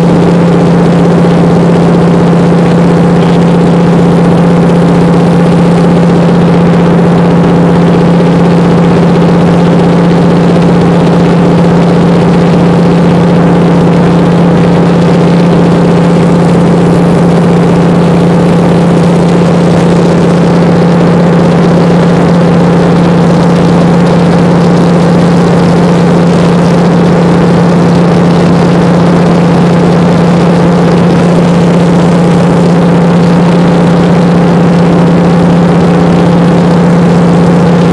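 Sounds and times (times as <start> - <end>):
plane engine droning in cabin: 0.0 - 37.9.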